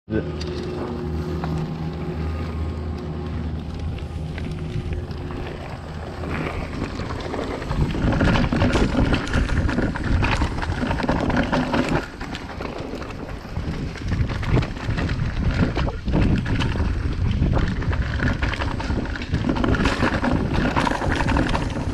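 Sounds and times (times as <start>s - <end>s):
mountain bike rattling over dirt: 0.1s - 21.9s
wind buffeting microphone: 0.8s - 21.9s.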